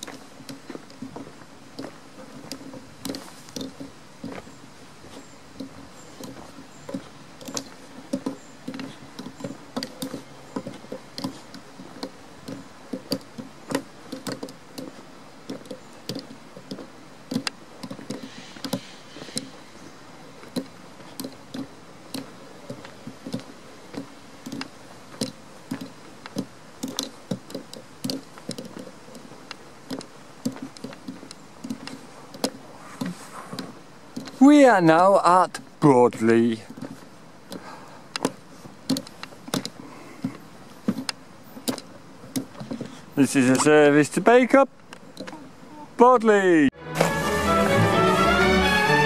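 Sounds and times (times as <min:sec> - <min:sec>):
footsteps on gravel: 0:00.0 - 0:44.6.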